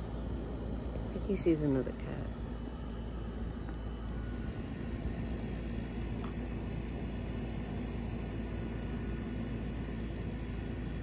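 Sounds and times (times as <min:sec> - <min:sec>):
machine drone with hiss: 0:00.0 - 0:11.0.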